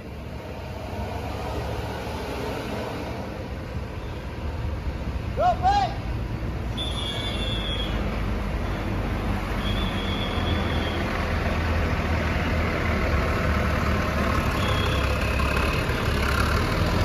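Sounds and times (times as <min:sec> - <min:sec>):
diesel bus engine rumbling: 0:00.0 - 0:17.0.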